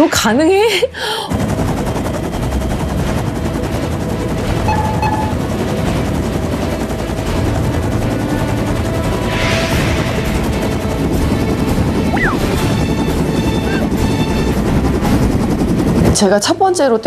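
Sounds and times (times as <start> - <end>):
helicopter rotor blades chopping: 0.1 - 17.0.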